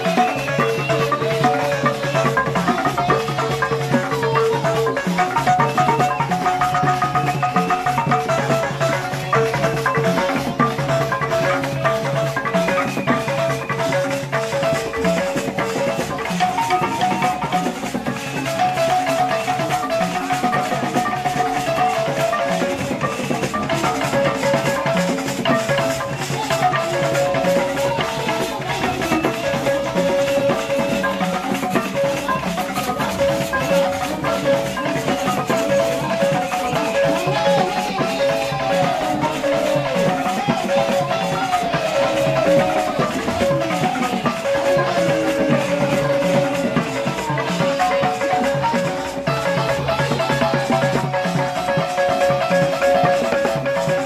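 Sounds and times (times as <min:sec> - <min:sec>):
other percussion: 0:00.0 - 0:54.0
wooden xylophone melody: 0:00.0 - 0:54.0.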